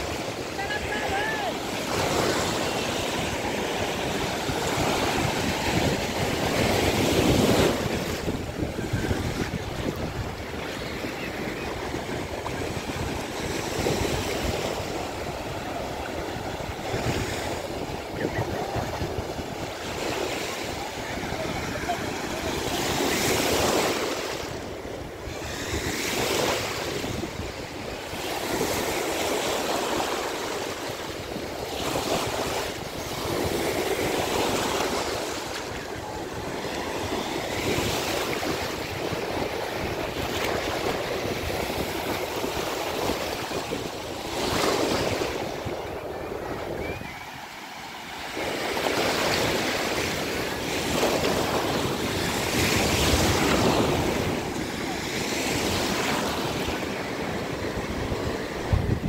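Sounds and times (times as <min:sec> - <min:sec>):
small waves breaking on sand: 0:00.0 - 0:59.0.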